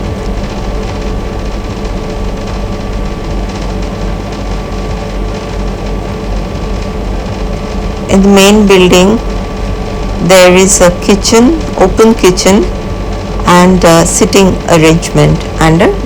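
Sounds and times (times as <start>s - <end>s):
mechanical whir with hum: 0.0s - 16.0s.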